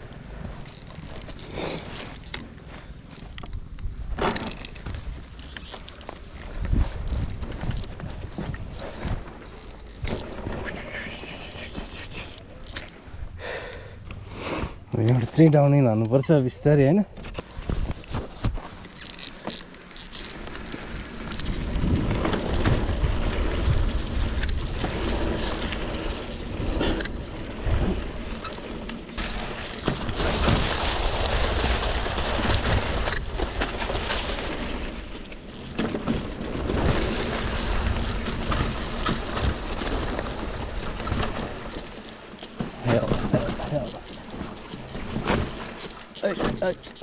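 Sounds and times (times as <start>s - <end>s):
bike rattling over stones: 0.0s - 10.7s, 15.0s - 47.0s.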